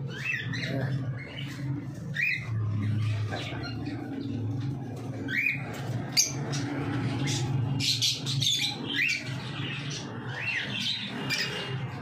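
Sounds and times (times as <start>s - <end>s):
lovebirds squawking chirps: 0.0s - 12.0s.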